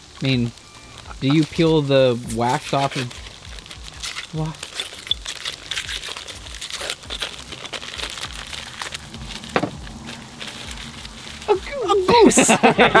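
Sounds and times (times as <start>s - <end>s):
paper wrapper crinkling and tearing: 0.0s - 13.0s.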